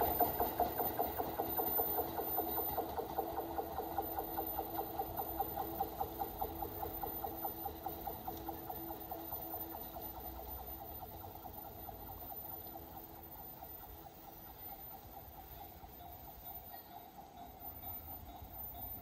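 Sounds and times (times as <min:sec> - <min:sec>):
train hum: 0:00.0 - 0:19.0
train wheels clattering on rails: 0:00.0 - 0:19.0.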